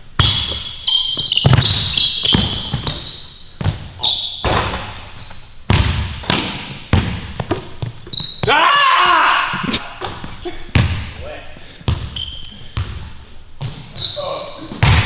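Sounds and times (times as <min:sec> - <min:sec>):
sneakers squeaking: 0:00.0 - 0:15.0
basketball bouncing on court: 0:00.1 - 0:08.6, 0:10.0 - 0:11.2, 0:11.8 - 0:14.0, 0:14.7 - 0:15.0.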